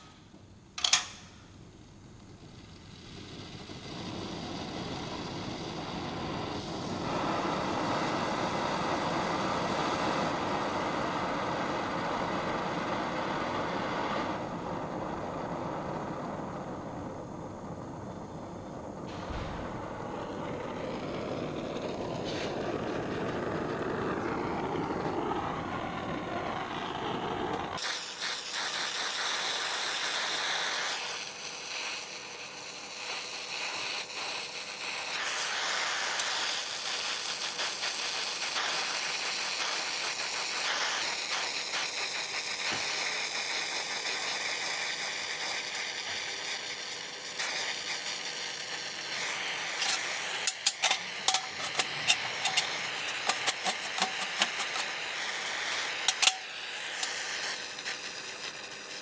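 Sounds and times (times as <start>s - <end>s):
torch flame hissing: 0.0s - 59.0s.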